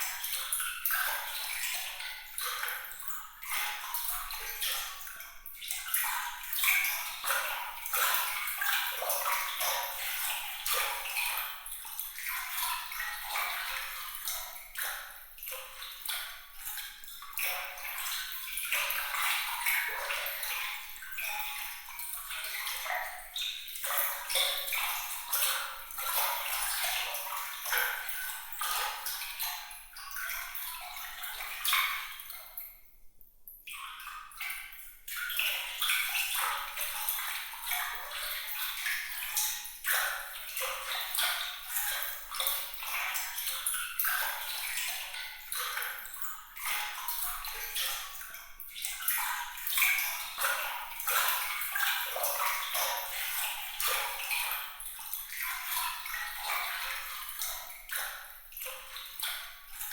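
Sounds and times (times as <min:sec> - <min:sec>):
water trickling and splashing: 0:00.0 - 0:32.9, 0:33.7 - 0:59.9.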